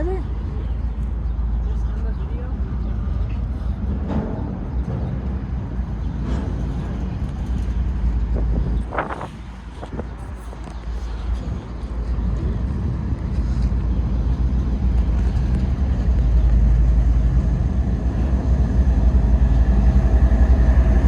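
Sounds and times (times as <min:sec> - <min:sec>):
diesel locomotive rumble: 0:00.0 - 0:21.0
freight train rolling past: 0:00.0 - 0:21.0.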